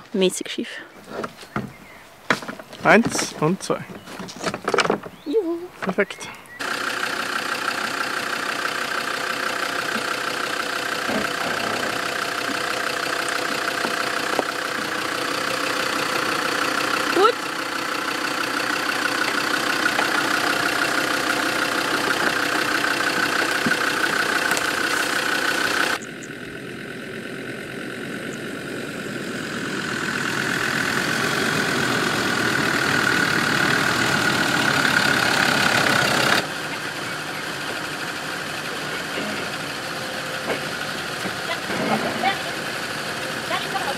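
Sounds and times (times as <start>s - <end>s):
diesel engine running at low revs: 1.2s - 43.9s.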